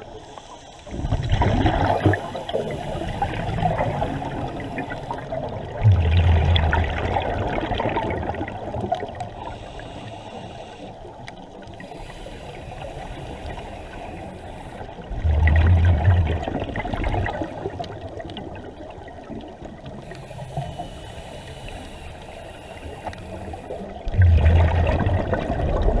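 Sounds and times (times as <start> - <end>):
steady water hiss: 0.0 - 26.0
underwater regulator bubbling: 0.9 - 9.9, 12.6 - 22.0, 23.0 - 26.0.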